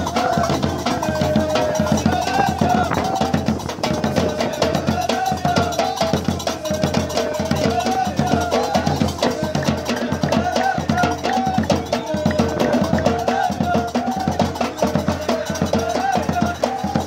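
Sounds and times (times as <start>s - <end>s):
drums in fast steady beat: 0.0s - 17.0s.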